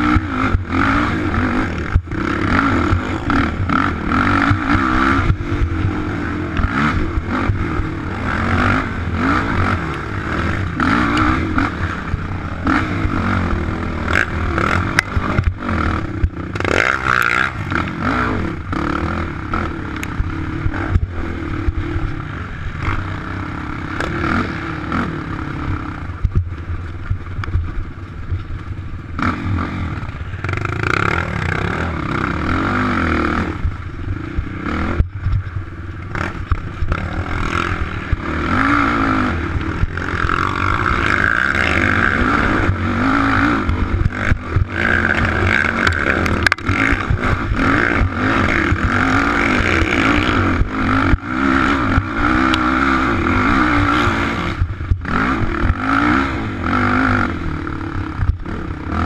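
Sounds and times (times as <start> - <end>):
atv engine revving: 0.0 - 59.0
quad rattling over rough dirt: 0.0 - 59.0.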